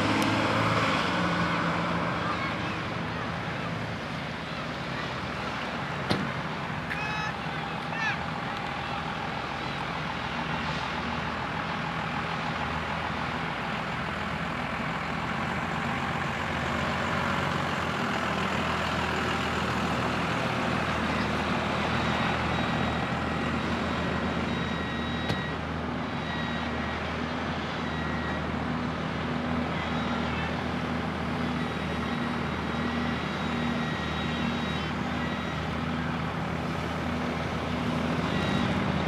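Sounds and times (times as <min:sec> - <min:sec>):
diesel engines running under load: 0:00.0 - 0:39.0.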